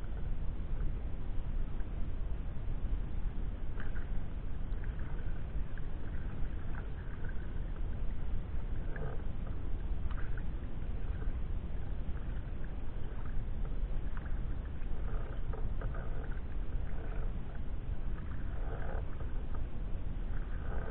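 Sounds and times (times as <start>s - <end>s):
steady low rumble: 0.0s - 20.9s
paddle splashes: 3.7s - 20.9s.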